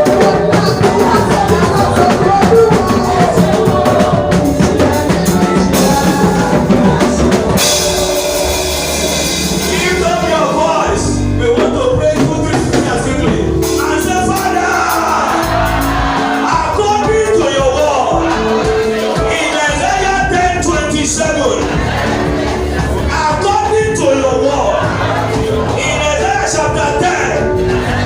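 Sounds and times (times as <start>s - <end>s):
band with drum kit: 0.0s - 28.0s
voices singing: 0.0s - 28.0s.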